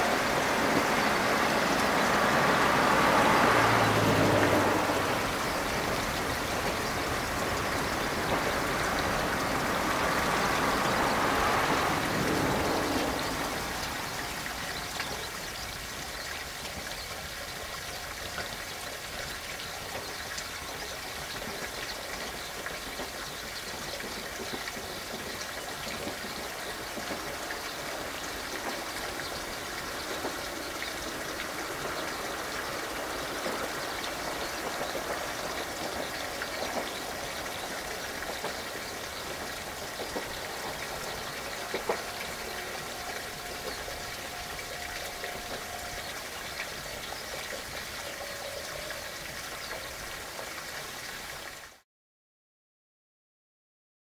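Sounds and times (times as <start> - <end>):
outdoor background hiss: 0.0 - 51.7.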